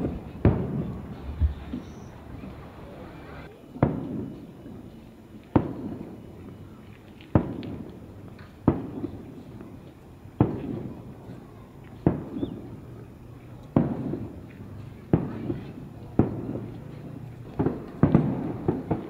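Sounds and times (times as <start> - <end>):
fireworks bursting with echo: 0.0 - 19.0.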